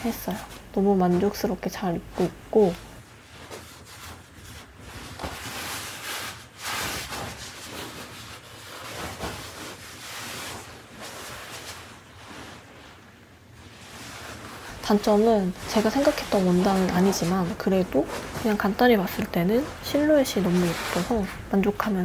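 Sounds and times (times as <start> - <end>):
fabric rustling: 0.0 - 22.0.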